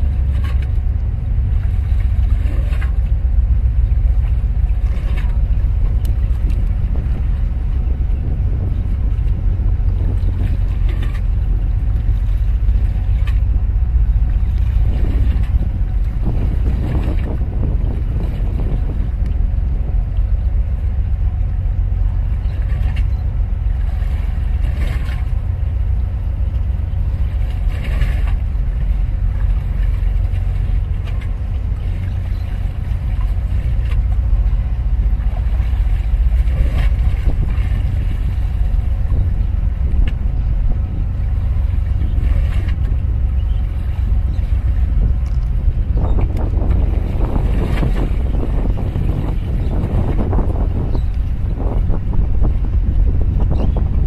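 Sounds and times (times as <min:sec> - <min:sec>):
motor boat engine rumble: 0:00.0 - 0:54.0
rushing water: 0:00.0 - 0:54.0
wind: 0:00.0 - 0:54.0.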